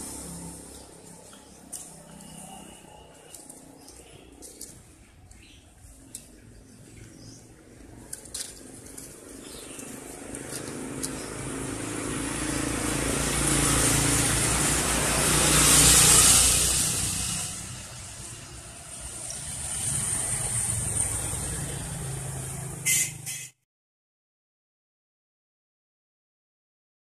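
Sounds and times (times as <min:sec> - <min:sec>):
vehicle passing: 0:00.0 - 0:22.8.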